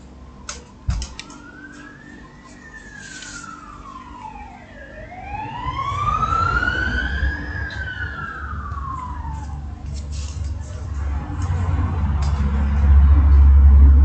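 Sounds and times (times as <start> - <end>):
low vehicle rumble: 0.0 - 14.0
emergency vehicle siren wailing: 1.0 - 14.0.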